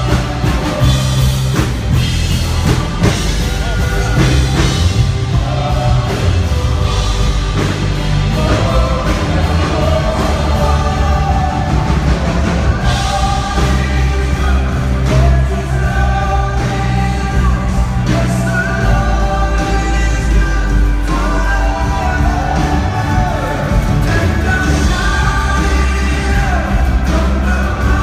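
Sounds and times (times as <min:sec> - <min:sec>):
bass: 0:00.0 - 0:28.0
drum kit: 0:00.0 - 0:28.0
live band playing: 0:00.0 - 0:28.0
people singing: 0:00.0 - 0:28.0.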